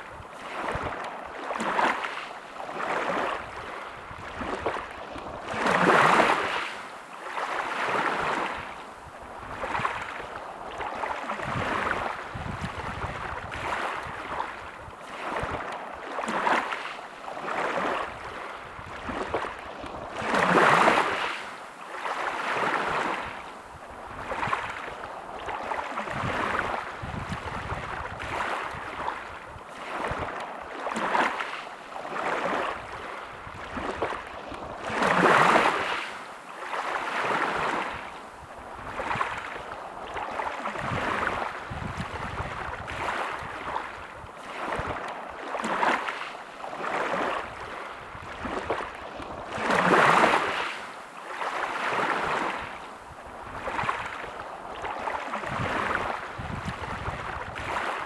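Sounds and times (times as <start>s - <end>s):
small sea waves lapping: 0.0s - 58.0s.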